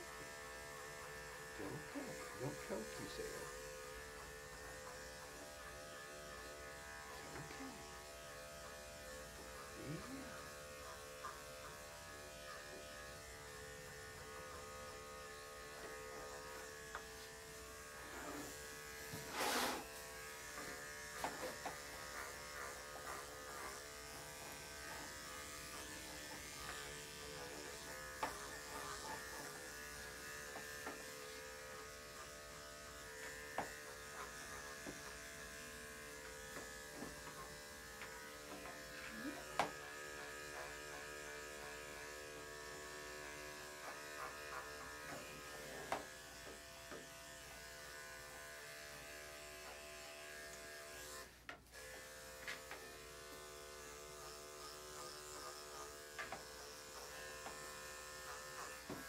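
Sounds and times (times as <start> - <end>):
electric clipper buzzing: 0.0 - 59.0.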